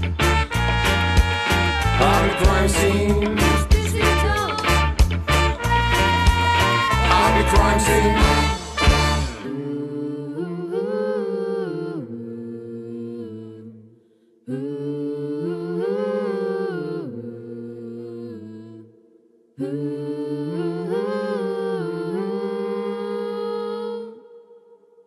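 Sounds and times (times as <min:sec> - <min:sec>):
wordless choir singing chords: 0:01.9 - 0:04.7, 0:06.6 - 0:25.0.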